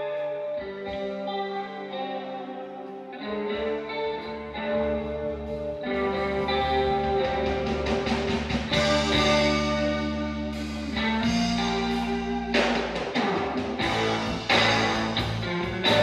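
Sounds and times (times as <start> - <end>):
instrumental guitar band music: 0.0 - 16.0.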